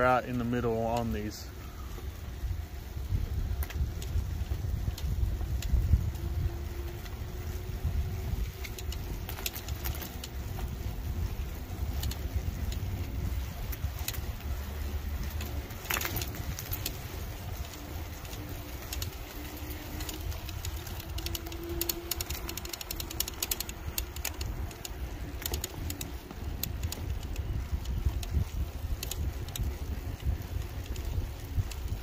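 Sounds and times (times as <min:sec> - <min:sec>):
rolling tyre noise: 0:00.0 - 0:32.0
wind buffeting microphone: 0:00.0 - 0:32.0.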